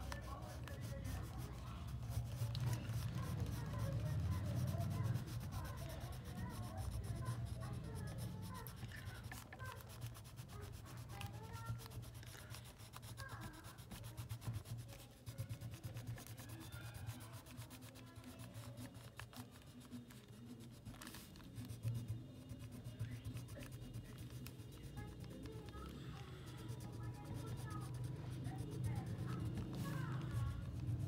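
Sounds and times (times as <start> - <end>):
crayon scratching on paper: 0.0 - 31.0.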